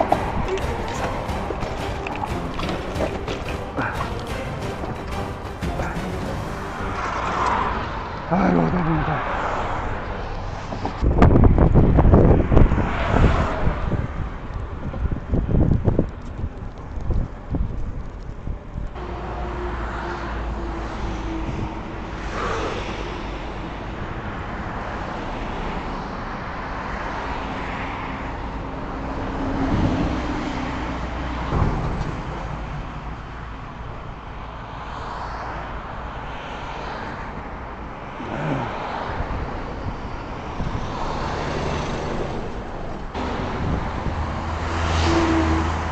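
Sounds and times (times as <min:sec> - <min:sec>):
road traffic rushing: 0:00.0 - 0:45.9
vehicles passing close by: 0:00.0 - 0:45.9.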